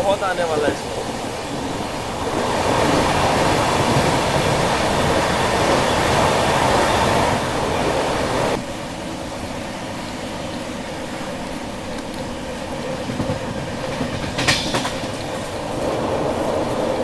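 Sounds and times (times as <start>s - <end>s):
train rushing through tunnel: 0.0s - 17.0s.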